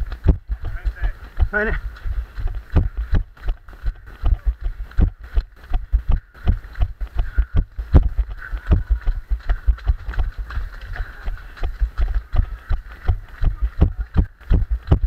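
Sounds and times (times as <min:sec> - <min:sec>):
footsteps on muddy trail: 0:00.0 - 0:15.0.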